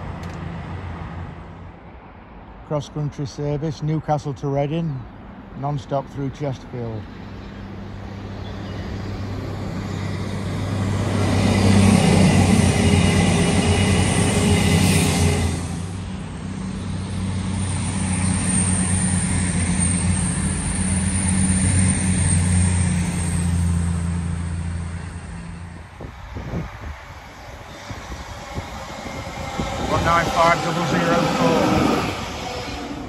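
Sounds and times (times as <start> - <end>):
diesel train passing at speed: 0.0 - 33.0
passenger train humming past: 6.3 - 33.0.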